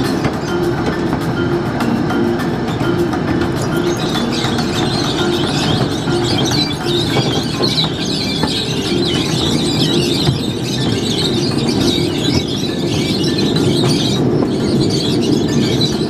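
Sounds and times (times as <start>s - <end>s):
miniature train rumbling: 0.0s - 16.0s
wavering high-pitched squeal: 0.0s - 16.0s.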